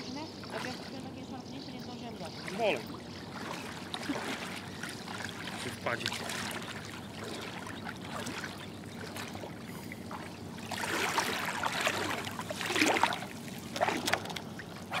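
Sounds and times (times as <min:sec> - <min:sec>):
water splashing around wading legs: 0:00.4 - 0:01.0, 0:02.4 - 0:15.0.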